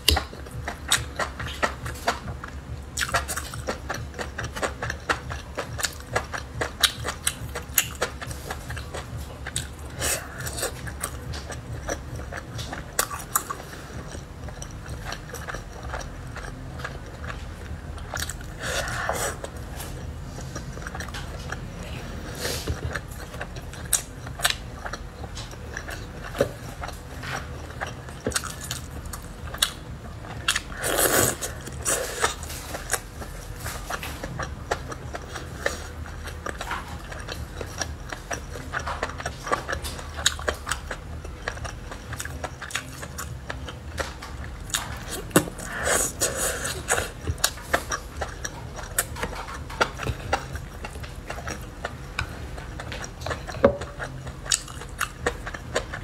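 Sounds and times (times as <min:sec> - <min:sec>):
wet biting and chewing: 0:00.0 - 0:56.0.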